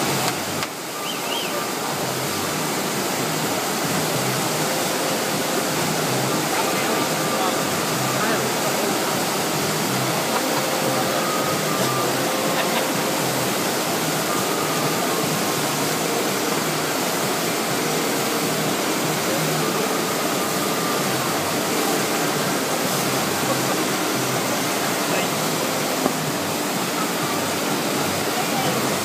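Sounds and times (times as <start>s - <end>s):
water rushing over surf machine: 0.0s - 29.0s.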